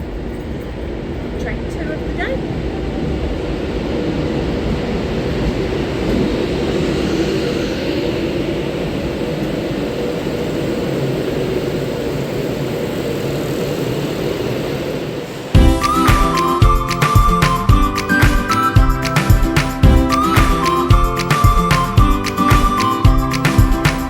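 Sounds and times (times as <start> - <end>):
train carriage rumble and hiss: 0.0 - 24.0.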